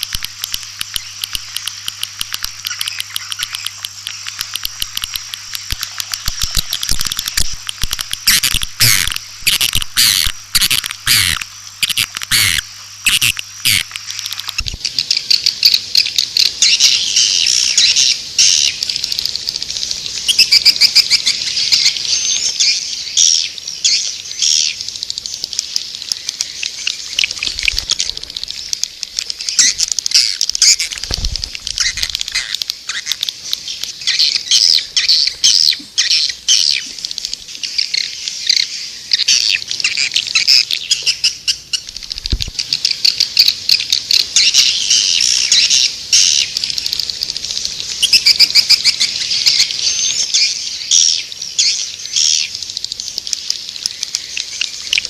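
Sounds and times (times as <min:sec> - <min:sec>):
swiftlets chirping and twittering: 0:00.0 - 0:55.0.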